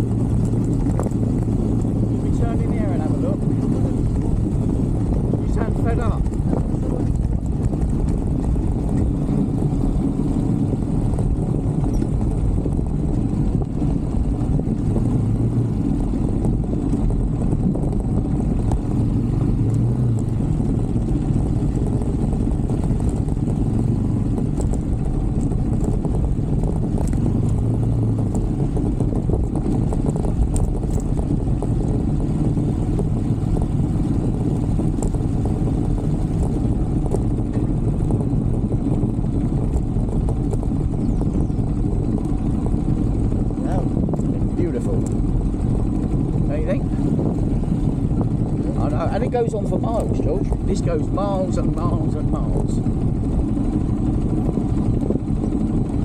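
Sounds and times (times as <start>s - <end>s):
motorbike engine running: 0.0s - 56.0s.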